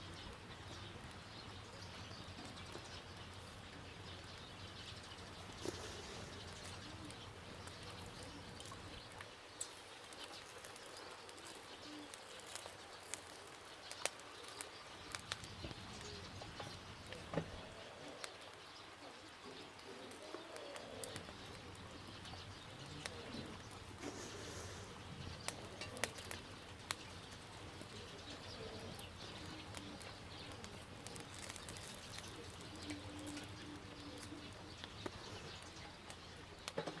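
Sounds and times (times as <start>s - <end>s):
fire crackling and popping: 0.0s - 37.0s
steady low hiss: 0.0s - 37.0s.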